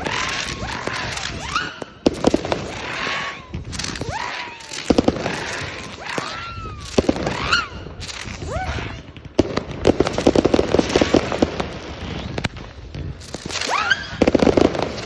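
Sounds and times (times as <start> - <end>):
fireworks bangs and pops: 0.0 - 15.0
fireworks rapid crackling: 0.0 - 15.0.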